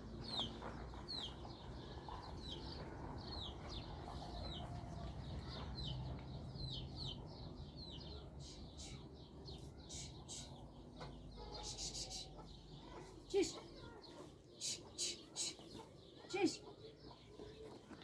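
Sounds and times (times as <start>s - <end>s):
bird peeping: 0.2s - 17.9s.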